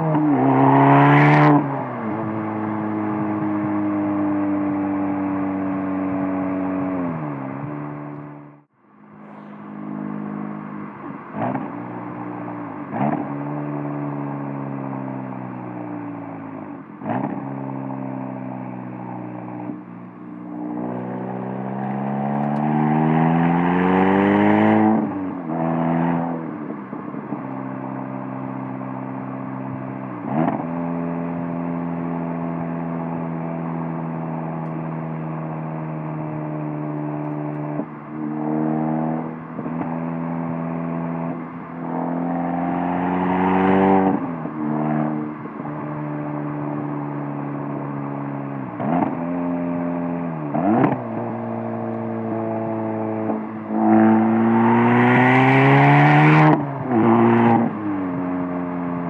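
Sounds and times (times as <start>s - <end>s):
car engine accelerating: 0.0s - 59.0s
exhaust cruising drone: 0.0s - 59.0s.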